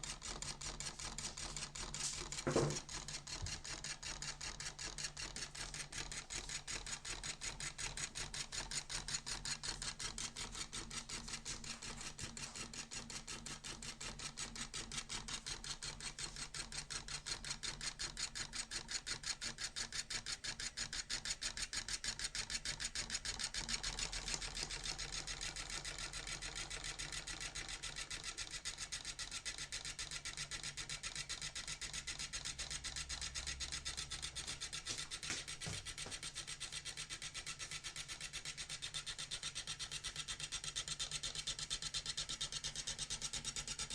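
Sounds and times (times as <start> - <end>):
electric motor rasping tick: 0.0 - 43.9.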